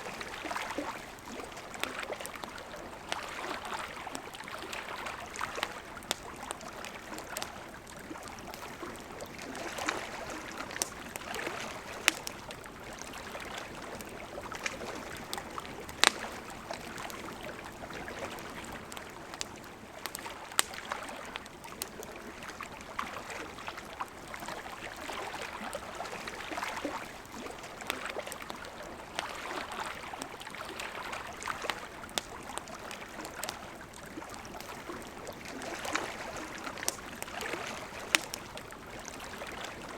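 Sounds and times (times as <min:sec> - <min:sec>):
campfire crackling and popping: 0:00.0 - 0:39.9
river flowing: 0:00.0 - 0:39.9.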